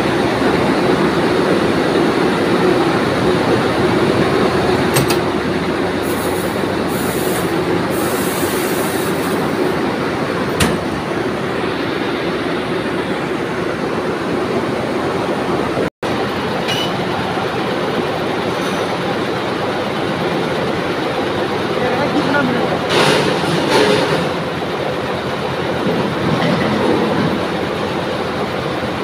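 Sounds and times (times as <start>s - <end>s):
mill machinery din: 0.0s - 29.0s.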